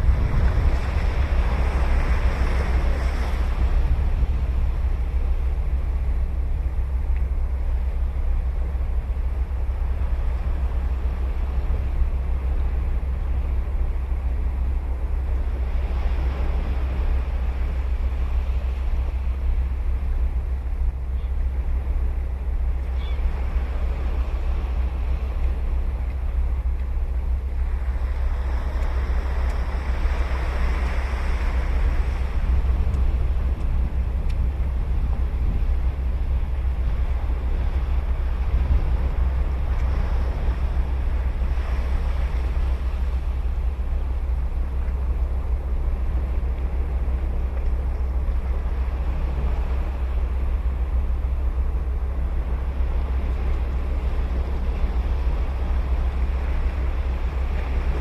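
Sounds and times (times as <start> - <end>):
surf washing on a sandy beach: 0.0 - 20.6, 21.6 - 58.0
constant low rumble: 0.0 - 58.0.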